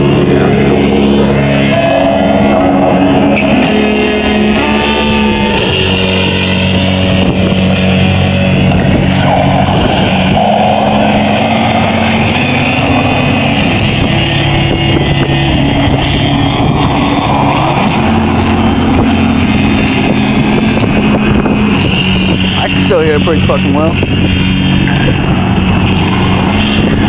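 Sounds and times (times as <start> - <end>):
distorted doom metal music: 0.0 - 27.0.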